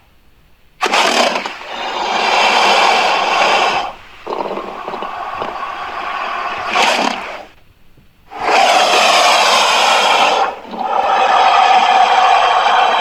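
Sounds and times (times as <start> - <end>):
harsh rasping creature call: 0.8 - 7.5, 8.3 - 13.0.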